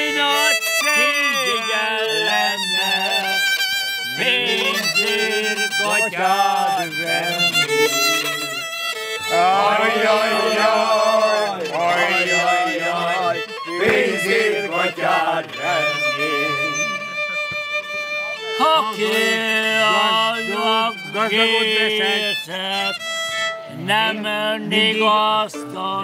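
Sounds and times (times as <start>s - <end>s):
solo violin melody with vibrato: 0.0s - 26.0s.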